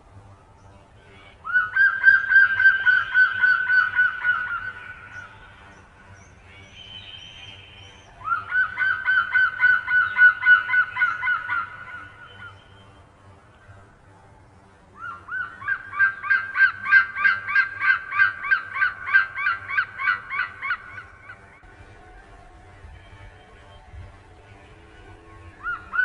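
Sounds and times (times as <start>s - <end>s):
bird honking rapid repeated notes: 1.4s - 13.2s, 15.0s - 21.5s, 23.4s - 26.0s.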